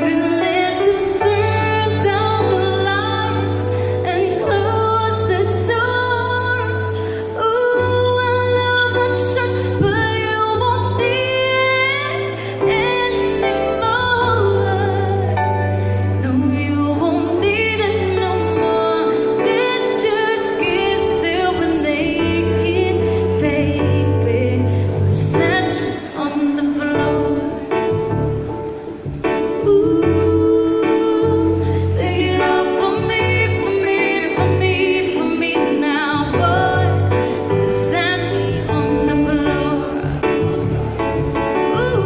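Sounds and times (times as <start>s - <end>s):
woman singing into microphone: 0.0s - 28.1s, 29.4s - 42.0s
keyboard chords: 0.0s - 42.0s.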